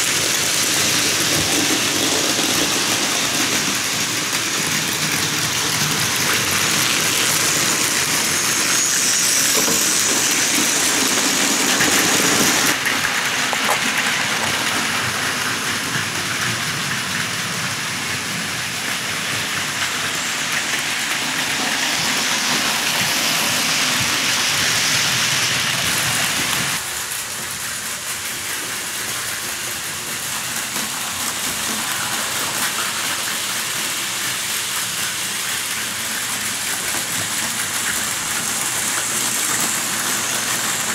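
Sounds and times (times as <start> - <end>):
toy trains rattling on tracks: 0.0 - 40.9.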